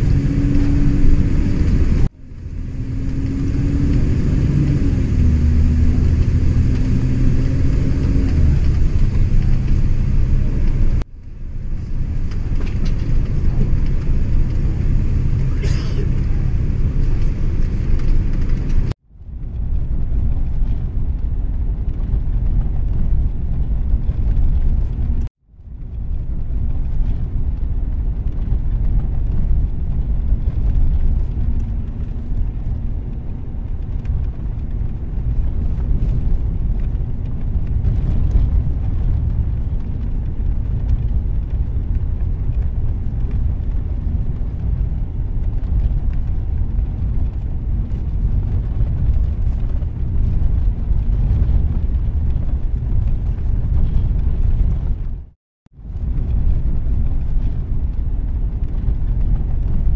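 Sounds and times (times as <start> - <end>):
bus rumbling: 0.0 - 59.9.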